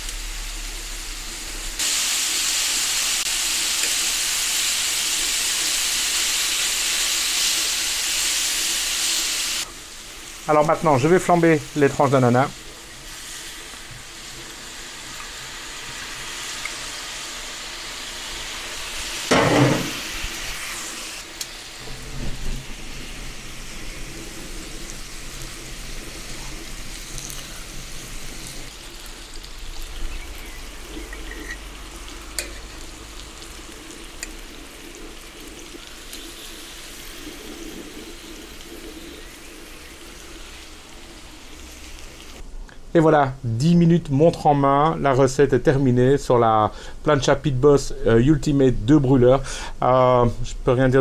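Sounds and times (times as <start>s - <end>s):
liquid sizzling on hot griddle: 0.0s - 42.5s.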